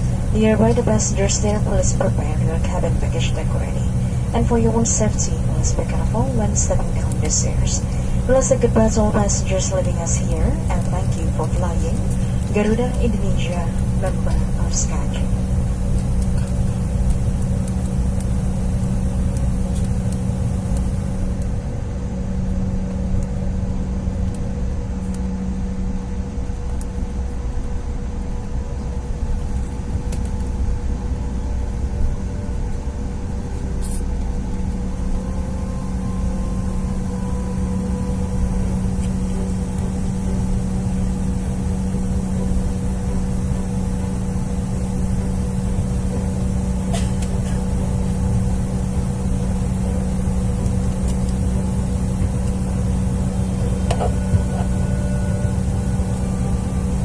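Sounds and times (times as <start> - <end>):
jet engines idling in cabin: 0.0 - 57.0.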